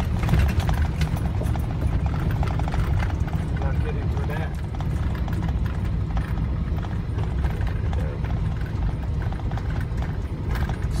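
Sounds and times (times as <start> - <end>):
rapid clatter of clicks: 0.0 - 11.0
vehicle cabin rumble: 0.0 - 11.0.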